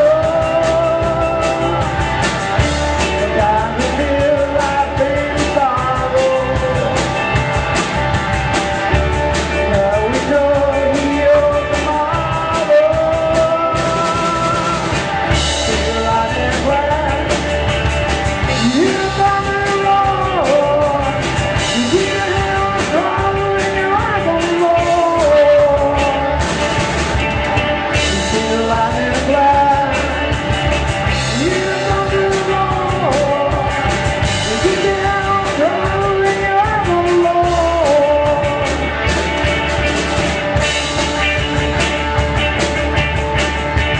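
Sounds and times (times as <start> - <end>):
rock music with singing: 0.0 - 43.9.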